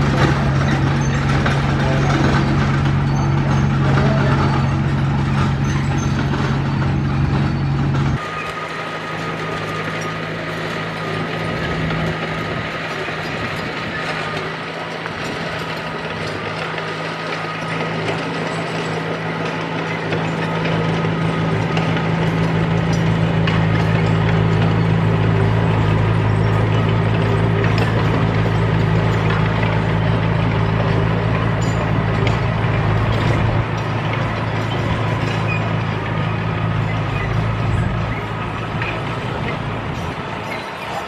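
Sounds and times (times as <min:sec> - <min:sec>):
bulldozer diesel engine running: 0:00.0 - 0:41.0
mechanical clatter: 0:00.0 - 0:41.0.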